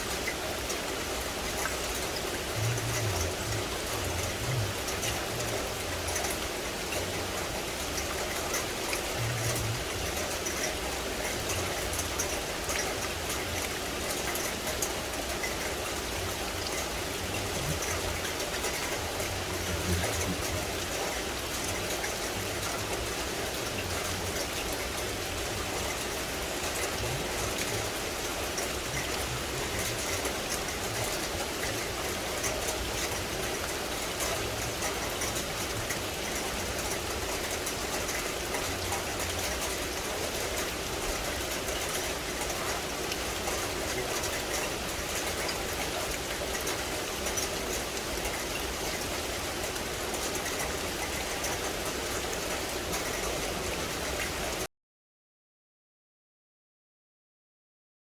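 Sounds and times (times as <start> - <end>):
rain falling in forest: 0.0 - 54.7.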